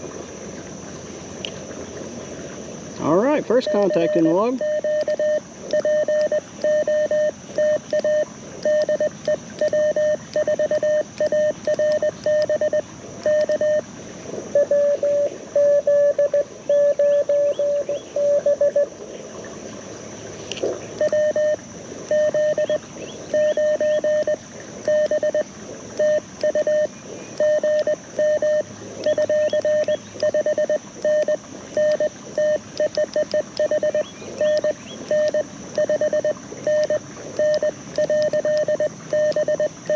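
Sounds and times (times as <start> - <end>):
lower-pitched morse signal: 3.0 - 13.9, 14.5 - 18.9, 21.0 - 39.9
morse code beeps: 3.3 - 13.8, 14.6 - 18.9, 21.0 - 25.4, 26.0 - 39.9.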